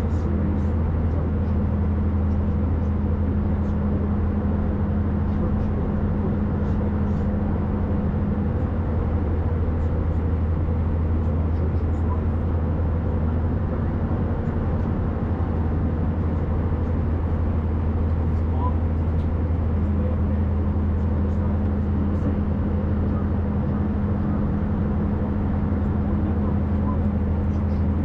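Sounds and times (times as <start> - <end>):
airliner cabin drone: 0.0 - 28.0
faint higher hum: 0.0 - 28.0
low engine hum: 0.0 - 28.0.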